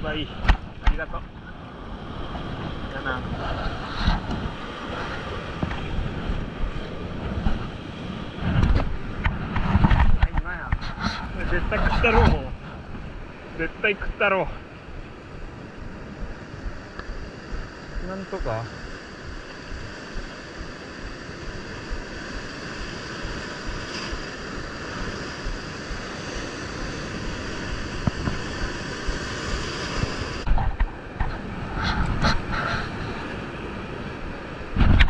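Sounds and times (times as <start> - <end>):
wind buffeting microphone: 0.0 - 35.0
surf breaking over rocks: 2.1 - 35.0.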